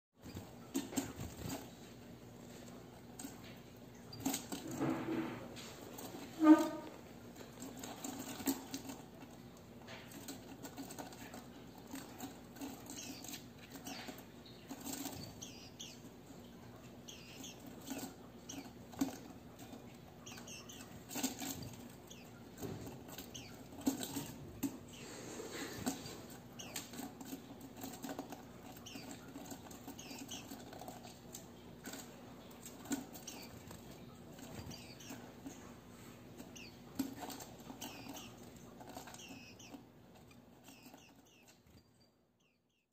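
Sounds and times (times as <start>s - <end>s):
birds pecking and tapping: 0.2s - 42.9s
small birds peeping: 0.2s - 42.9s.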